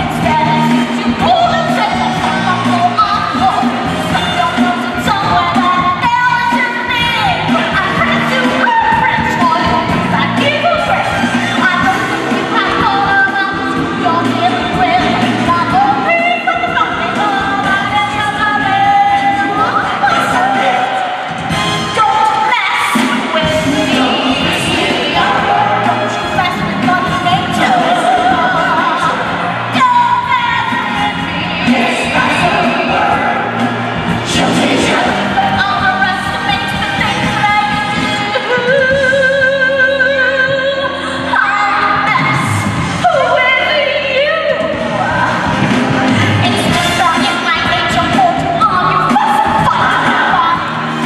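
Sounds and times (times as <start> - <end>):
recorded musical backing: 0.0 - 51.0.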